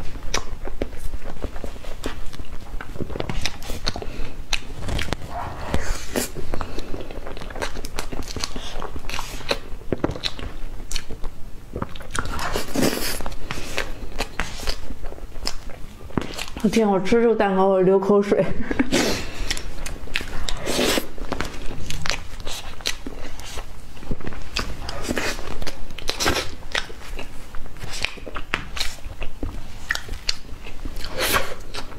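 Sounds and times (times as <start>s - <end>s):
chewing and wet mouth smacks: 0.2s - 16.6s, 18.9s - 31.9s.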